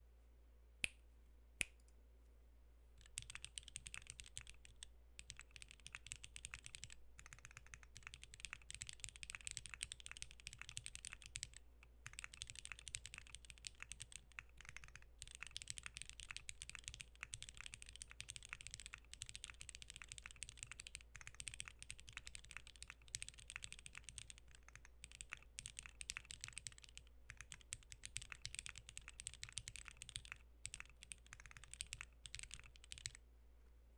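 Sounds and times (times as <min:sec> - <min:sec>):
mechanical keyboard typing: 0:03.0 - 0:33.2.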